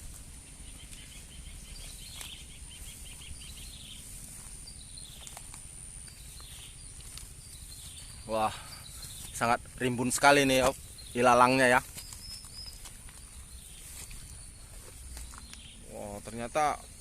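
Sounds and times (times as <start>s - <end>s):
high-pitched insect drone: 0.0s - 17.0s
insect chirps: 0.0s - 17.0s.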